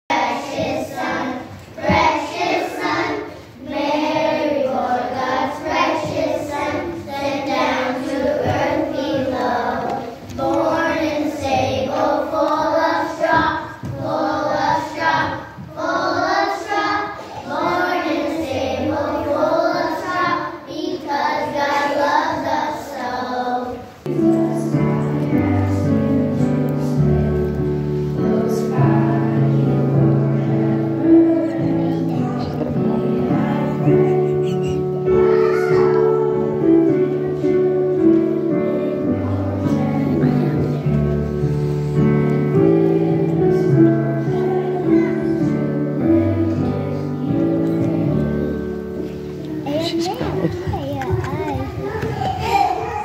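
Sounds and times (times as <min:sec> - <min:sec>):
children's choir singing: 0:00.0 - 0:53.0.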